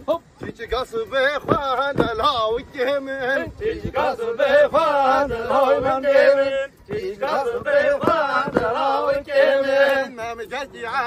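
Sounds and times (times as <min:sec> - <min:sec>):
man singing folk song: 0:00.0 - 0:11.0.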